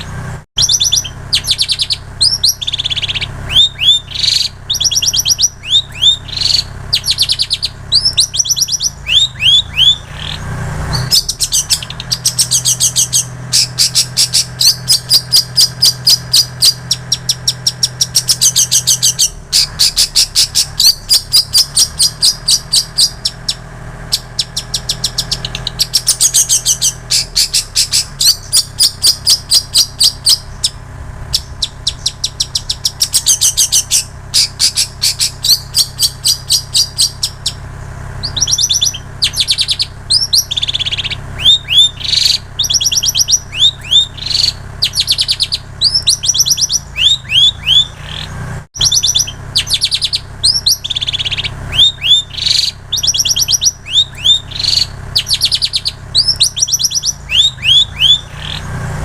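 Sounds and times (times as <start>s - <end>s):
bird chattering song: 0.0s - 59.0s.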